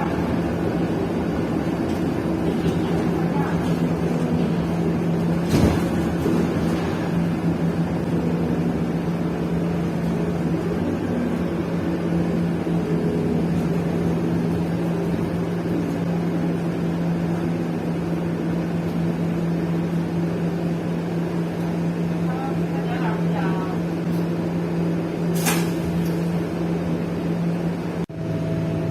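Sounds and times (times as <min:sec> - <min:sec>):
bus engine drone: 0:00.0 - 0:28.9
low drivetrain hum: 0:00.0 - 0:28.9.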